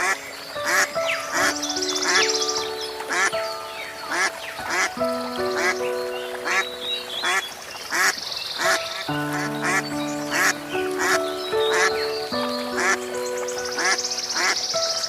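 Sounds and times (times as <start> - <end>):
background music with held notes: 0.0 - 15.0.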